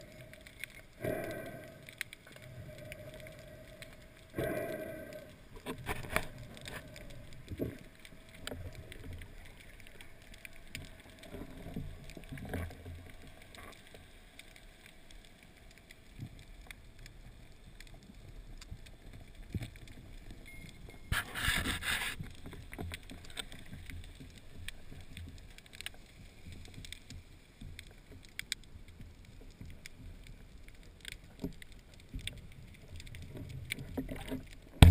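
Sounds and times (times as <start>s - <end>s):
underwater water noise: 0.0s - 34.9s.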